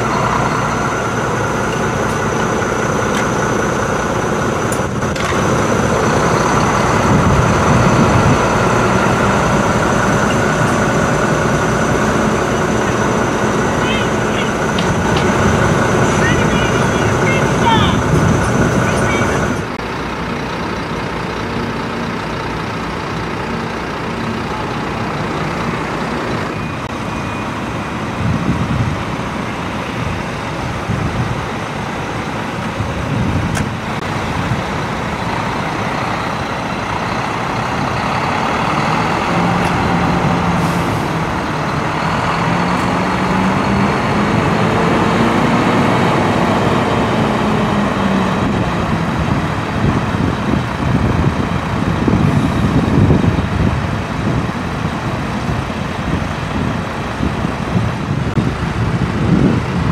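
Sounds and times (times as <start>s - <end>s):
lorry diesel engine running: 0.0s - 59.9s.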